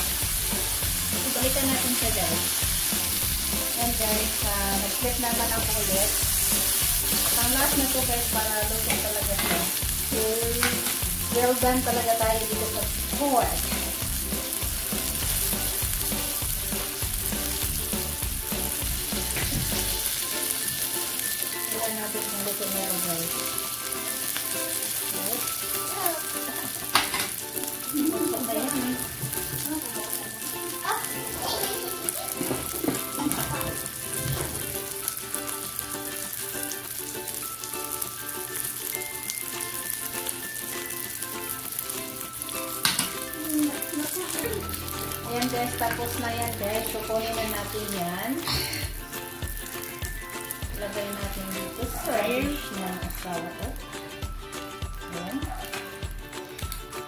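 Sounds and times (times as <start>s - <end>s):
meat patties sizzling in oil: 0.0s - 57.0s.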